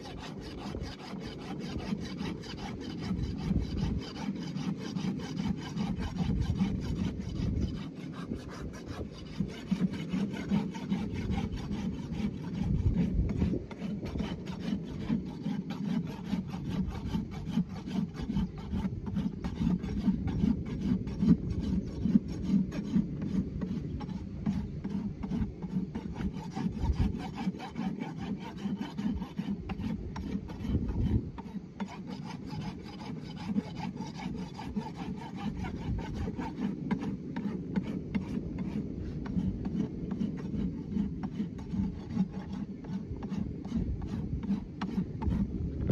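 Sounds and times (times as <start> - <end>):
hoof rasp filing hoof: 0.0 - 45.9.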